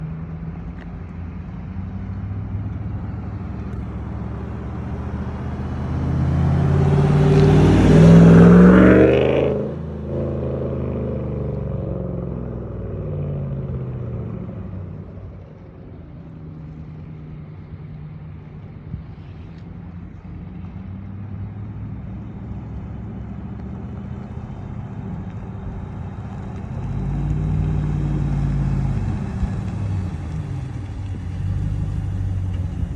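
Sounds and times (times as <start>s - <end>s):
truck exhaust accelerating: 0.0s - 32.9s.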